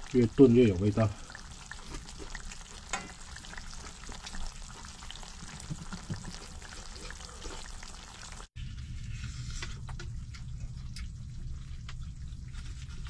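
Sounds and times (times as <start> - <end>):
stew bubbling in a pot: 0.0 - 8.6, 9.6 - 13.0.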